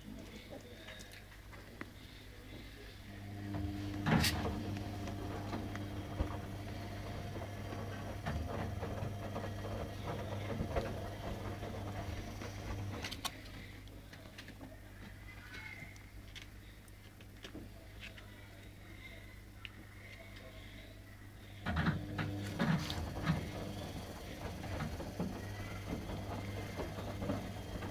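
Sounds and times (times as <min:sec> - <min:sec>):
low mechanical hum: 0:00.0 - 0:27.9.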